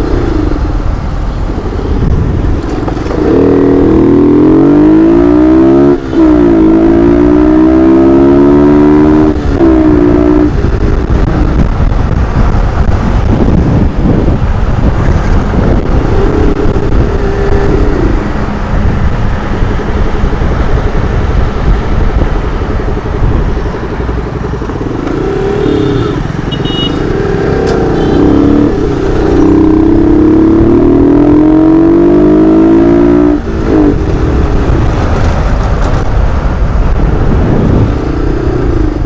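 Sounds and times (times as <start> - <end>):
motorcycle engine running: 0.0 - 7.0, 7.9 - 39.0
low wind rumble: 0.0 - 39.0.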